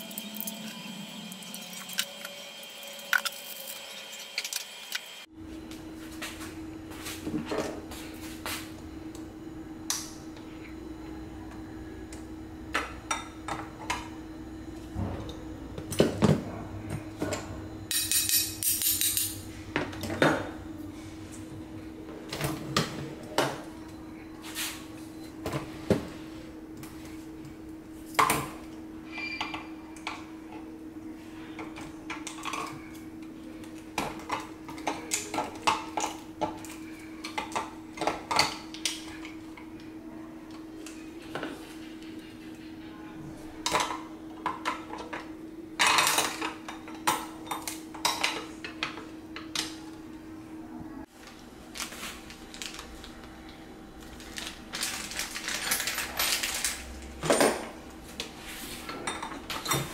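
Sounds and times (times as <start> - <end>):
steady low hum: 5.2 - 55.4.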